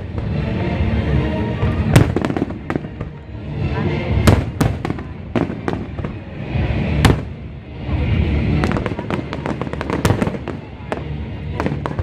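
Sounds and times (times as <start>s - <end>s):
fireworks crackling: 0.0s - 12.0s
low rolling rumble: 0.0s - 12.0s
fireworks bangs: 1.6s - 7.5s, 8.2s - 12.0s.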